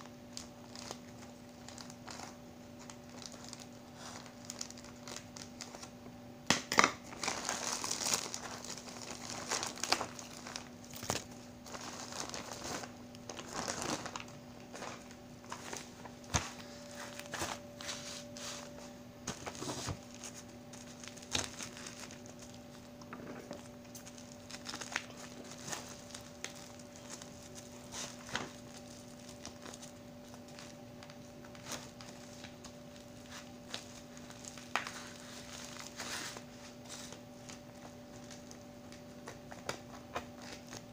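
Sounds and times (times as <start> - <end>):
bubble wrap crinkling and crackling: 0.0 - 40.9
faint steady hum: 0.0 - 40.9.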